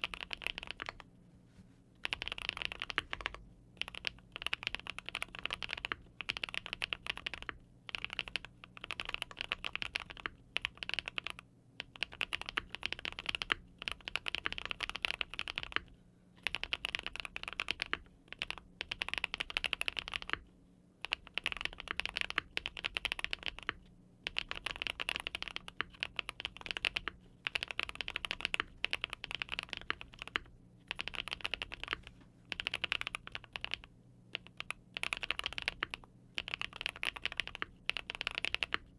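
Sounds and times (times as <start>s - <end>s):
mechanical keyboard typing: 0.0s - 1.1s, 2.0s - 20.4s, 21.0s - 38.9s.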